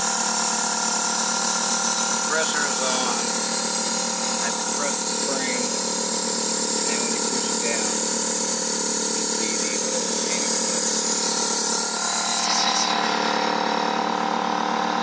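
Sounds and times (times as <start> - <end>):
air compressor humming and hissing: 0.0 - 15.0.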